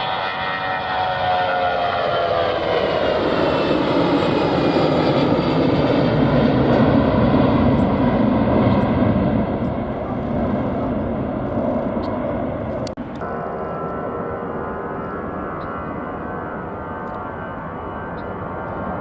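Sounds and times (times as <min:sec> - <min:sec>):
airliner engine whine and roar: 0:00.0 - 0:19.0.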